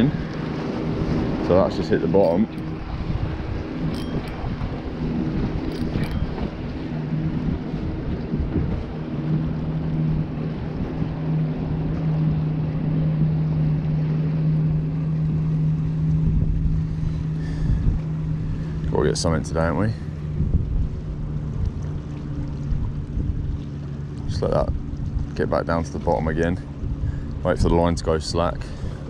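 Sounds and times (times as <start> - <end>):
low engine hum: 0.0 - 29.0
wind buffeting microphone: 0.0 - 29.0.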